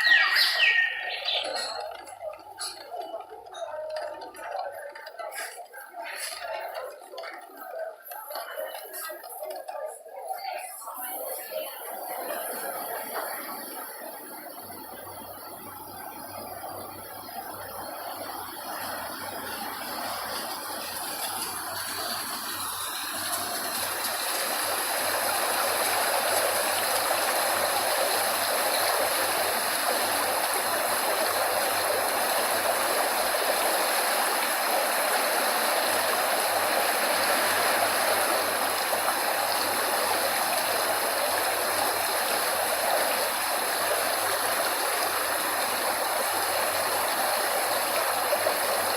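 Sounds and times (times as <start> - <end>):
running water rushing: 0.0 - 48.9.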